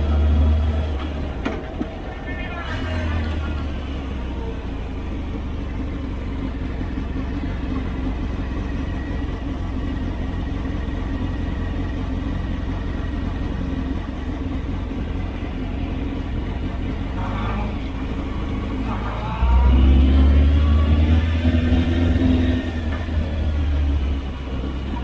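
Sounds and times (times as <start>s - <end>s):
motorcycle engine idling: 0.0s - 19.7s, 22.6s - 25.0s.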